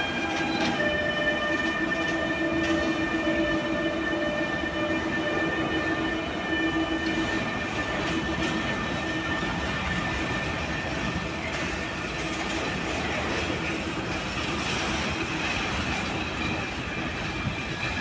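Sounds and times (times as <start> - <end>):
locomotive whining tones: 0.0 - 18.0
wheels rumbling on rails: 0.0 - 18.0.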